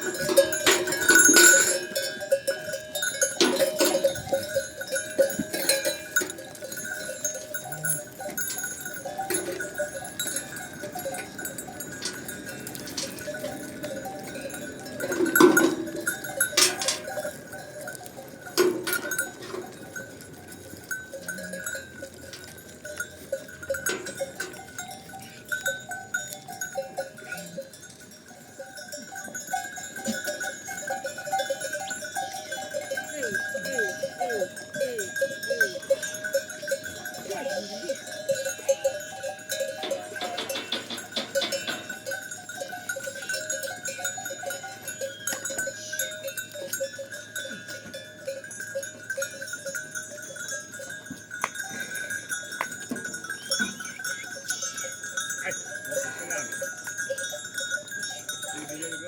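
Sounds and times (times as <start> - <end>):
sheep and goat bells clanking: 0.0 - 59.0.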